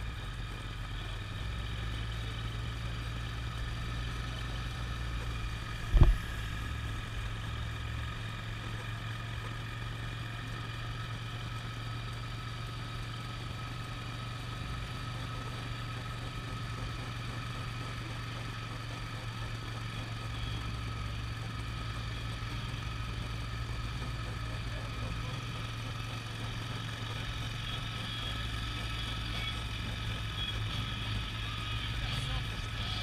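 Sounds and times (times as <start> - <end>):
car engine humming: 0.0 - 33.0.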